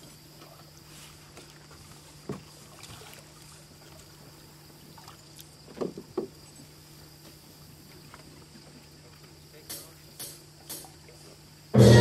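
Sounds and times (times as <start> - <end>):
paddle dipping and splashing water: 0.0 - 11.4.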